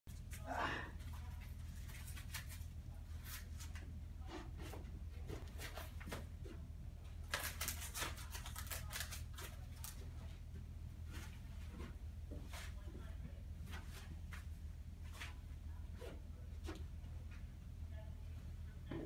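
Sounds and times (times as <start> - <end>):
steady low hum: 0.1 - 19.0.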